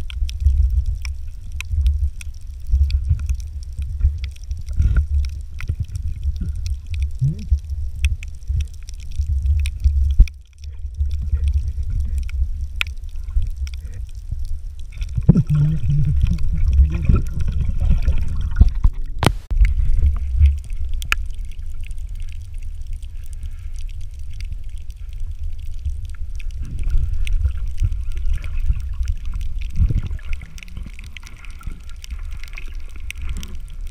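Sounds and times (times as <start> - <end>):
underwater rumble: 0.0 - 33.9.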